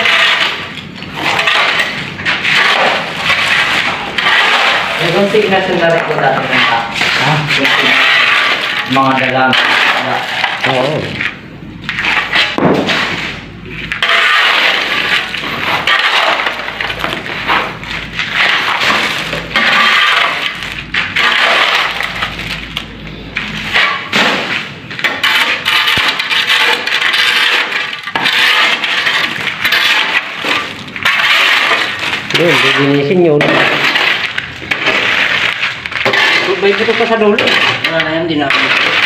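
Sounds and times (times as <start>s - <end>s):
debris crunching and clinking: 0.0s - 39.0s
metal tool scraping through rubble: 0.0s - 39.0s.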